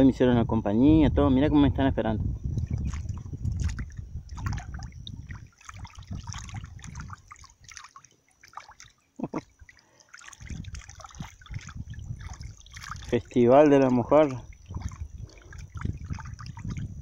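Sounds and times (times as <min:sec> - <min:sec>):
scraps splashing into water: 0:02.6 - 0:17.0.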